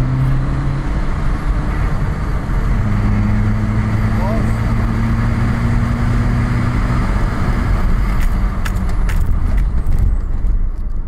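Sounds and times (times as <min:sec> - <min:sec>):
diesel engine rev limiter drone: 0:00.0 - 0:10.8
rough engine rumble: 0:00.0 - 0:11.0.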